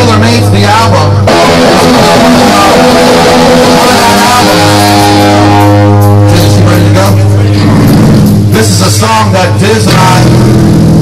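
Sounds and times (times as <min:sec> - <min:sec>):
electric guitar: 0:00.0 - 0:11.0
heavy bass note: 0:00.0 - 0:11.0
live rock band playing: 0:00.0 - 0:11.0.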